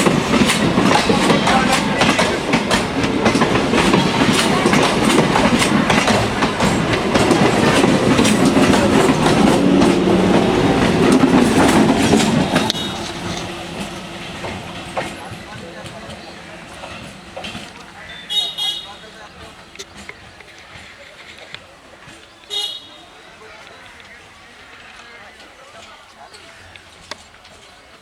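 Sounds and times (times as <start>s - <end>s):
train passing at speed: 0.0s - 26.0s
wheels clicking over rail joints: 0.0s - 28.0s.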